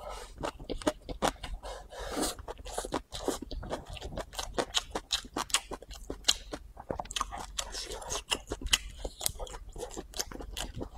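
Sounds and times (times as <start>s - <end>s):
person chewing noodles: 0.0s - 10.9s.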